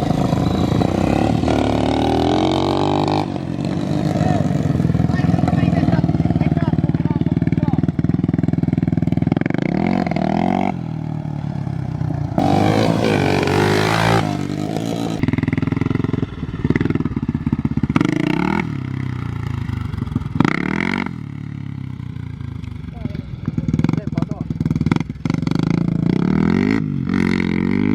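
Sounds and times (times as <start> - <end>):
off-road vehicle engine revving: 0.0 - 27.9.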